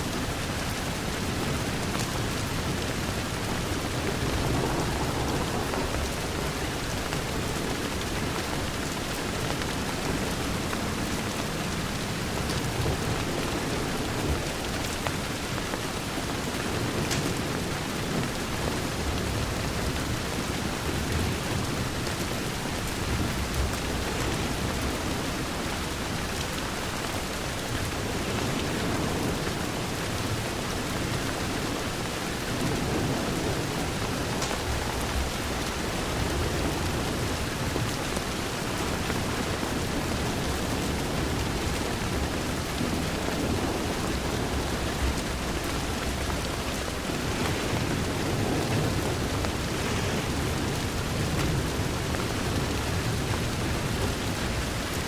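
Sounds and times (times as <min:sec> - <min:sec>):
heavy rain against a window: 0:00.0 - 0:55.0.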